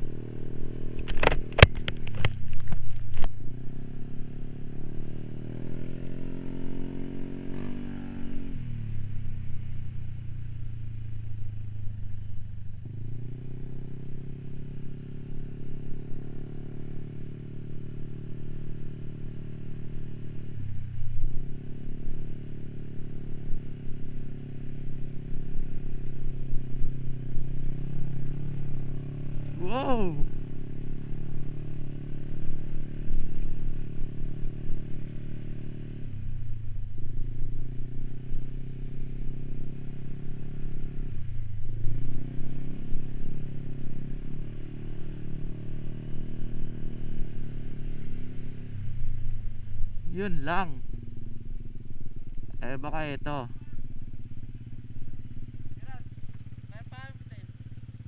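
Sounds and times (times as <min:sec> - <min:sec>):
motor scooter engine: 0:00.0 - 0:58.0.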